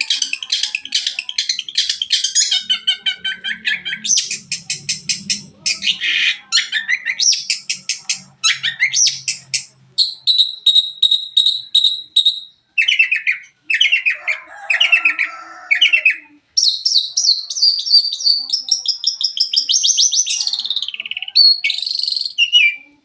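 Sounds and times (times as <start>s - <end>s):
shrike singing varied song: 0.0s - 23.0s.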